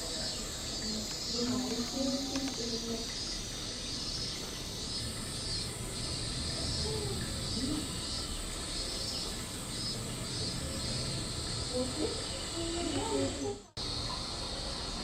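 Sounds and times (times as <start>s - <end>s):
cicadas buzzing: 0.0s - 15.0s.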